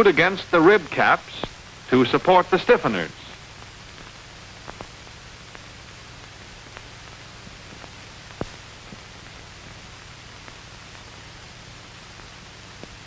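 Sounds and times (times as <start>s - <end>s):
crackling clicks and pops: 0.0s - 13.0s
film soundtrack hiss: 0.0s - 13.0s.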